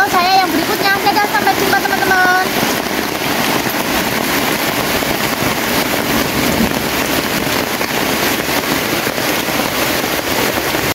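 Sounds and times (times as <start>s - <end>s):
heavy rain falling: 0.0s - 10.9s.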